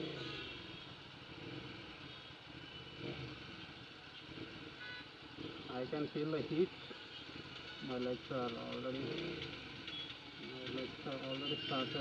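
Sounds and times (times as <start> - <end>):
surrounding traffic noise: 0.0 - 12.0.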